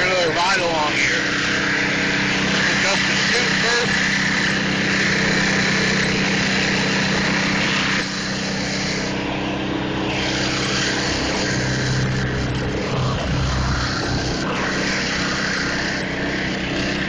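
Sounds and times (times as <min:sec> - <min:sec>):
snow hissing through auger: 0:00.0 - 0:17.0
snowblower engine running: 0:00.0 - 0:17.0.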